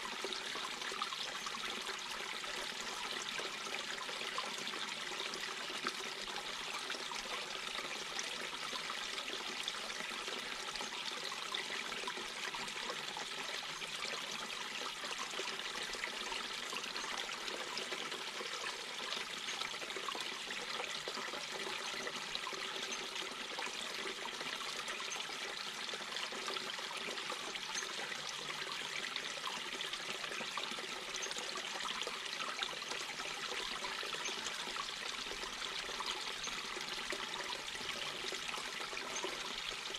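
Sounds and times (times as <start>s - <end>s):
brook water over rocks: 0.0s - 39.9s.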